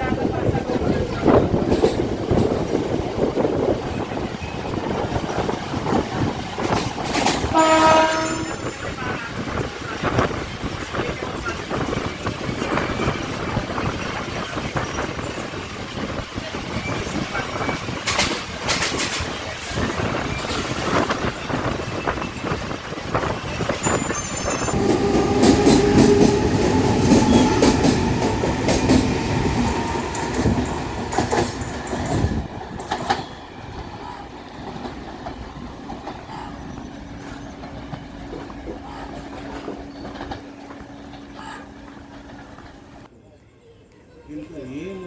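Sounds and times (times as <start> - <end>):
train wheels clacking on rails: 0.0 - 43.1.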